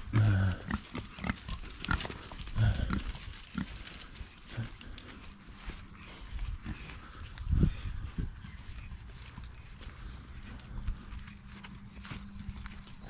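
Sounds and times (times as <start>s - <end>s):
pigs grunting: 0.0s - 11.4s.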